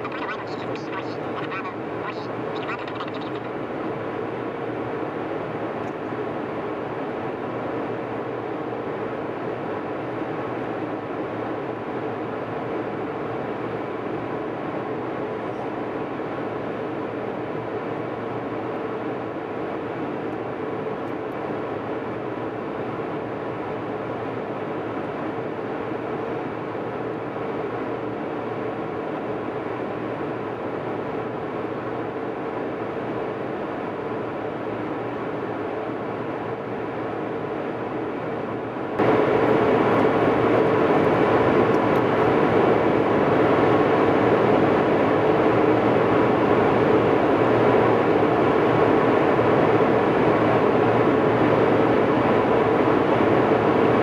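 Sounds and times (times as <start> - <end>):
constant cabin hum: 0.0 - 54.0
jet engine and airflow rush: 0.0 - 54.0.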